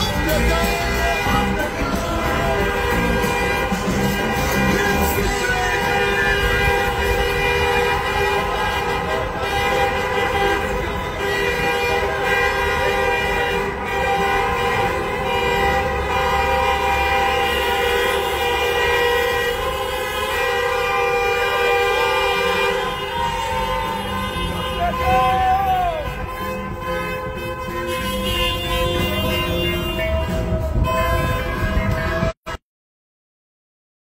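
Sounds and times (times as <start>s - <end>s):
traffic rumble: 0.0s - 32.4s
car horns honking: 0.0s - 32.6s.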